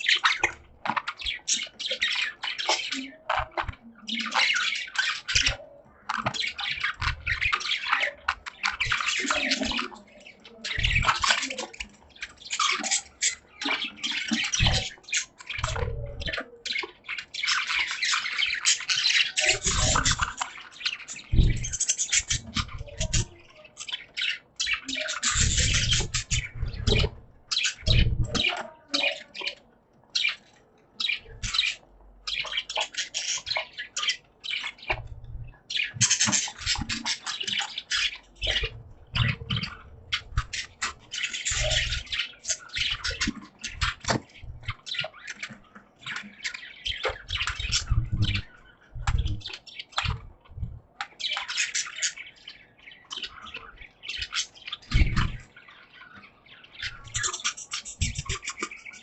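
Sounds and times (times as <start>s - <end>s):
budgerigars chattering and chirping: 0.0s - 59.0s.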